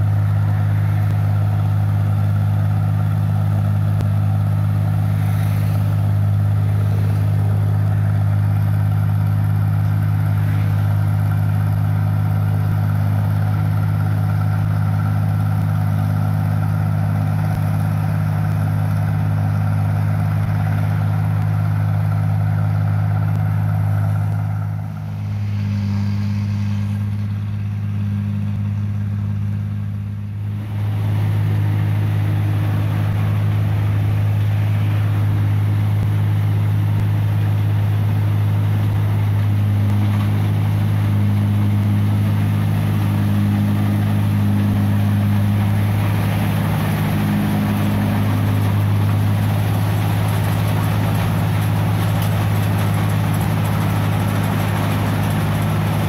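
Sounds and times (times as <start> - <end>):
combine harvester diesel drone: 0.0 - 56.0.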